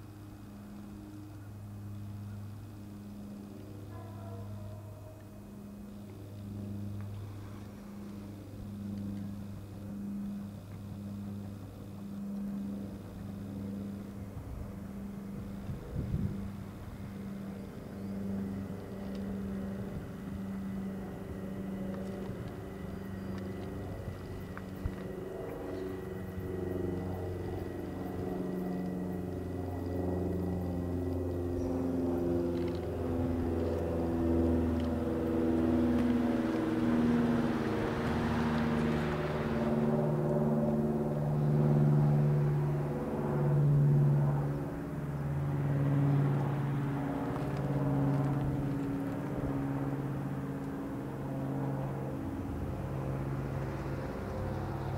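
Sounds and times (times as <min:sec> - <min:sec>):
electric train propulsion hum: 0:00.0 - 0:54.9.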